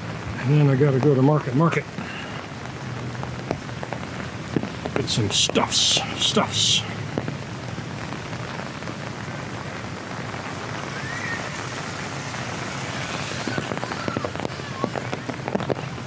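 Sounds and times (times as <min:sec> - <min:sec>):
rain pattering on an umbrella: 0:00.0 - 0:16.0.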